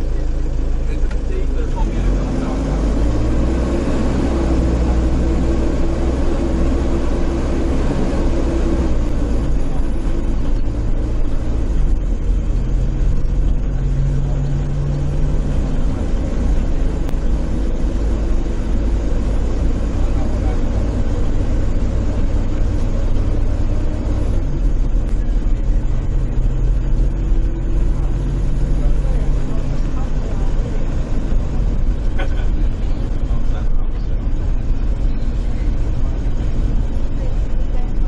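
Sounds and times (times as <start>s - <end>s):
bus engine running: 0.0s - 38.0s
road noise: 0.0s - 38.0s.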